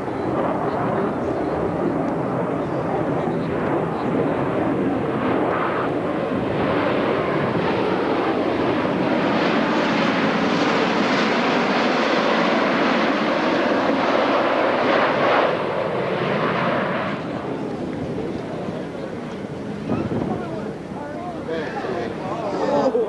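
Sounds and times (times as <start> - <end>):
jet engines flying past: 0.0 - 23.0.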